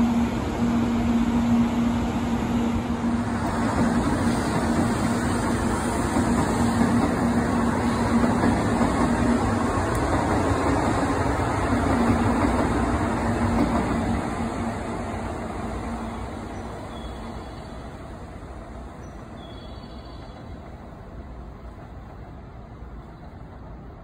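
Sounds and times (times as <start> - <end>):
train rolling rumble: 0.0 - 24.0.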